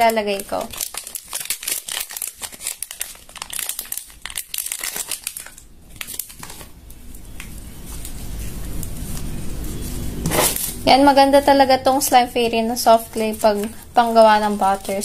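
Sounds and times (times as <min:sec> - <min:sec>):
hands working slime and clay: 0:00.0 - 0:05.4, 0:06.1 - 0:15.0.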